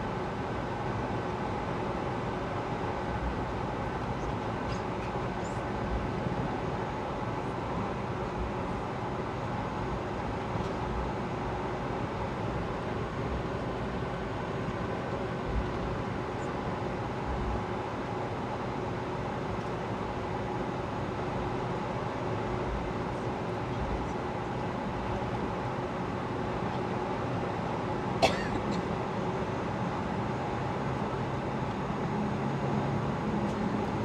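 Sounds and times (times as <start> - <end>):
airplane cabin engine noise: 0.0 - 34.0.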